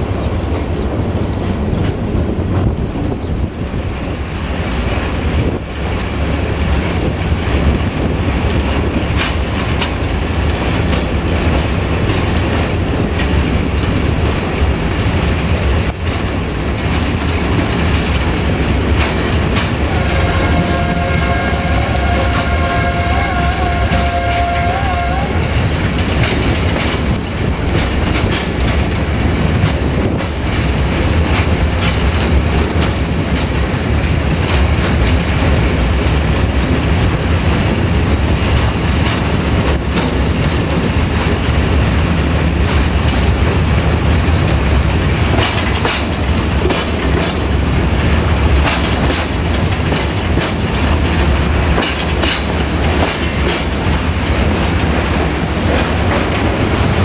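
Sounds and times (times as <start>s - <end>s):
clickety-clack of wheels: 0.0s - 57.0s
train rumbling: 0.0s - 57.0s.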